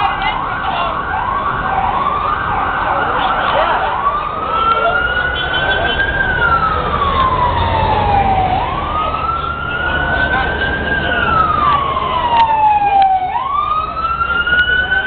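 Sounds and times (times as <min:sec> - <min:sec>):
emergency siren wailing: 0:00.0 - 0:15.0
fainter higher siren: 0:00.0 - 0:15.0
street noise: 0:00.0 - 0:15.0.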